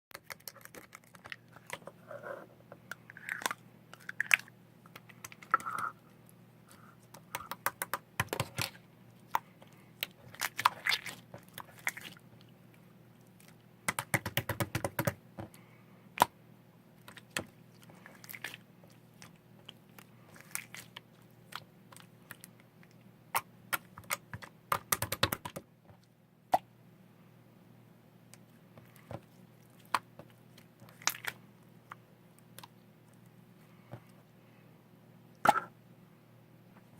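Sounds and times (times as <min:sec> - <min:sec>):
faint steady hum: 0:00.2 - 0:36.9.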